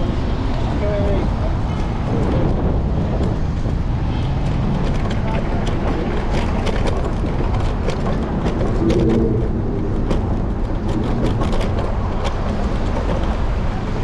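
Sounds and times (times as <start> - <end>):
road and wind noise: 0.0 - 14.0
scooter clicks and rattles: 1.6 - 14.0.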